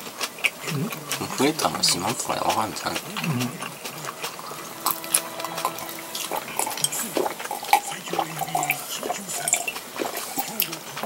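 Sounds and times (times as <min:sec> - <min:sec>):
chopsticks clicking on dishes: 0:00.0 - 0:11.0
wet chewing: 0:00.0 - 0:11.0
low murmured voice: 0:00.6 - 0:11.0.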